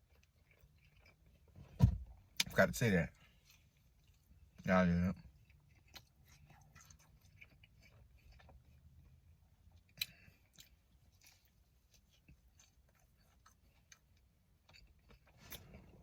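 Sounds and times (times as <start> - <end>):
food crunching: 0.0 - 1.6, 3.3 - 16.0
person chewing fried food: 0.0 - 16.0.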